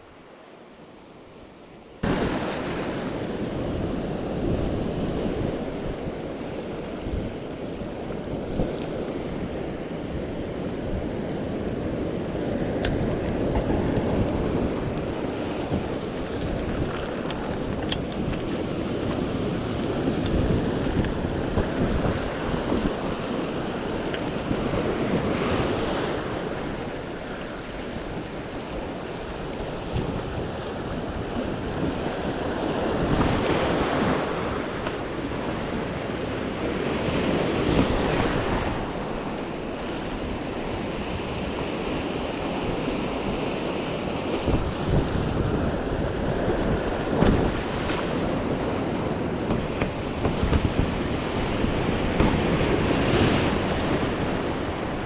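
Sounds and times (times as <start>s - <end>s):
sea surf washing on shore: 0.0s - 55.0s
wind buffeting microphone: 2.0s - 55.0s.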